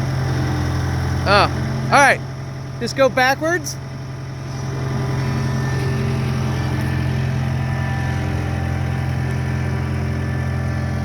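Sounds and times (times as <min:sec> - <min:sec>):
skid steer engine running: 0:00.0 - 0:11.0.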